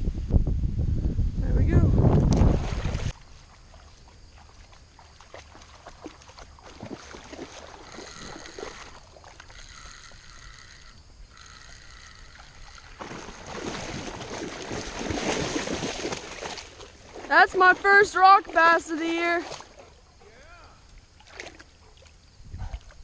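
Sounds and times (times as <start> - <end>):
creek water running: 1.7 - 23.0.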